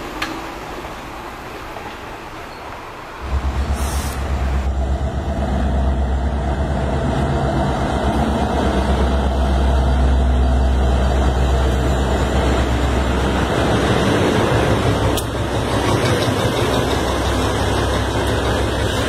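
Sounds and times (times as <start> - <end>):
locomotive engines droning: 0.0 - 19.0.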